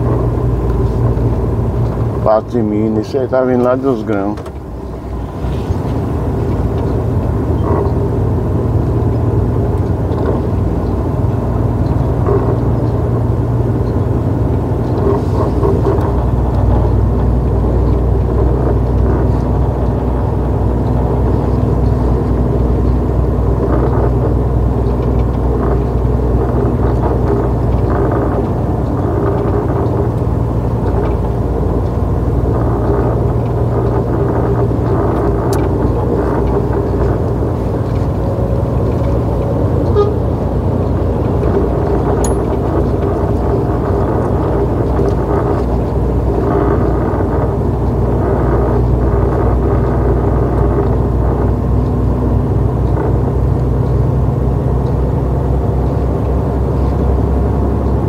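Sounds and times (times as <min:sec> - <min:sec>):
road noise: 0:00.0 - 0:58.0
truck diesel engine running: 0:00.0 - 0:58.0.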